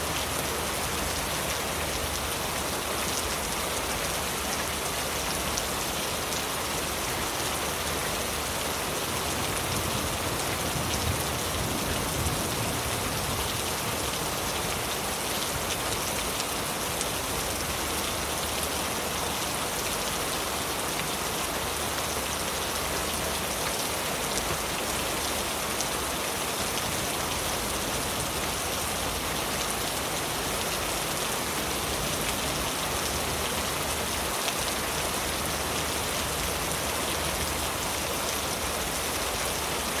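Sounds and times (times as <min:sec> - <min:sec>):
heavy rain falling on leaves: 0:00.0 - 0:40.0.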